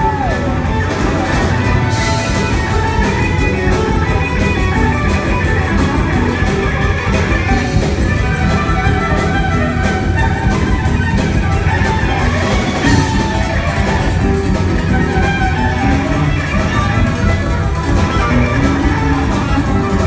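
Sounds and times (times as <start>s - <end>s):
electric guitars: 0.0s - 20.0s
steady drum beat: 0.0s - 20.0s.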